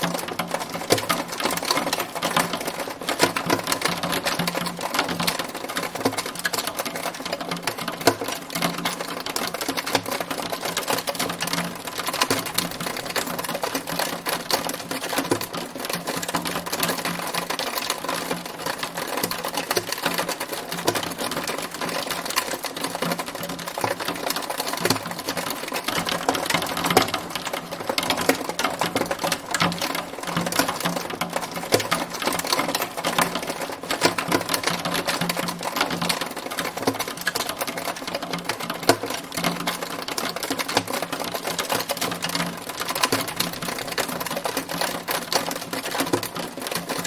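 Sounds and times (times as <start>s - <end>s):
hailstones striking hard surface: 0.1s - 47.0s.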